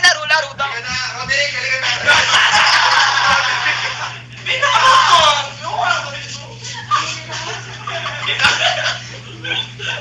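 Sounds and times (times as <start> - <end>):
people talking and chuckling: 0.2 - 10.0.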